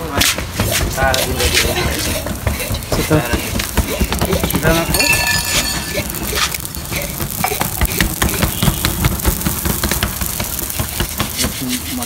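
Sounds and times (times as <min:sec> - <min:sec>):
gas torch burning: 0:00.0 - 0:12.0
crackles and clicks: 0:00.9 - 0:12.0.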